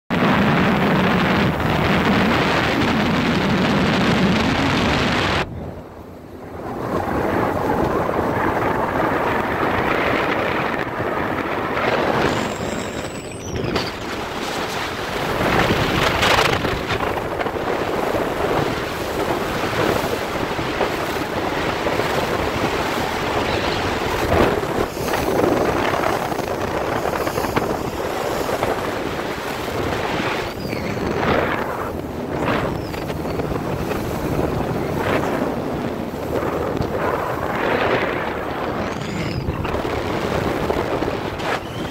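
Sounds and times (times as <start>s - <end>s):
water rushing along hull: 0.1s - 41.9s
wind on microphone: 0.1s - 41.9s
boat engine running: 0.2s - 41.9s.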